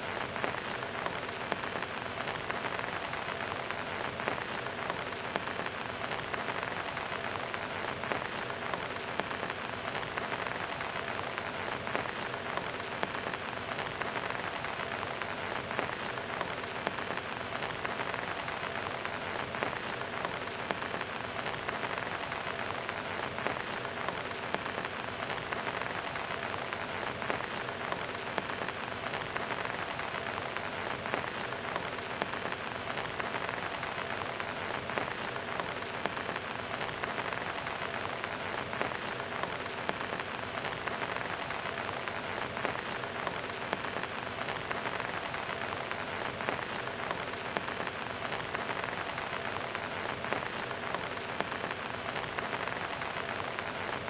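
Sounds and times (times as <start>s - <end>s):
heavy rain on concrete: 0.0s - 54.0s.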